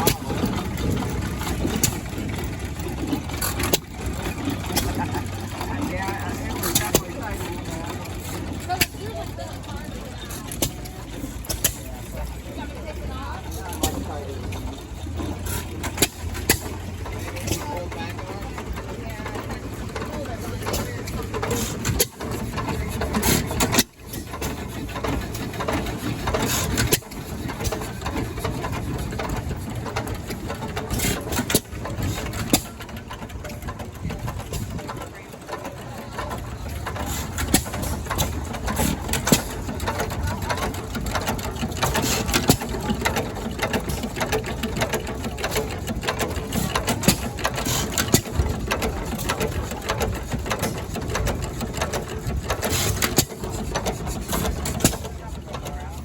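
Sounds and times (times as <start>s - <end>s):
engine running: 0.0s - 56.0s
mechanical clatter: 0.0s - 56.0s.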